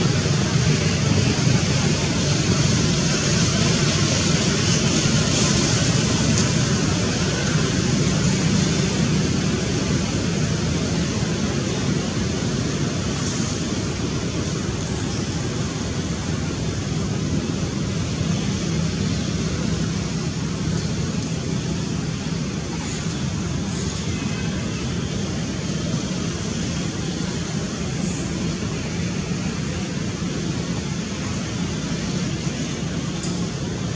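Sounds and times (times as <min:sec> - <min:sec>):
low rumbling background noise: 0:00.0 - 0:33.9.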